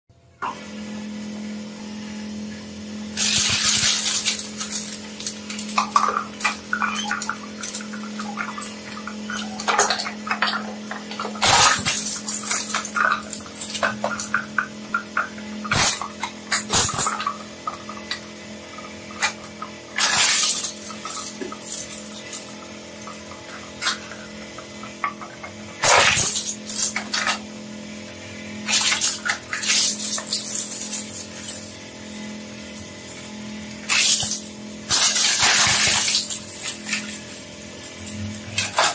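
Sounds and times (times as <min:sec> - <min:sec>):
shredder humming: 0:00.3 - 0:38.9
plastic crackling and crunching: 0:03.2 - 0:27.4, 0:28.7 - 0:38.9.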